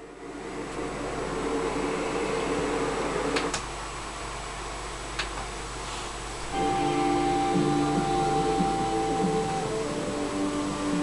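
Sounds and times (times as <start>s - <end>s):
room tone hiss and hum: 0.0s - 11.0s.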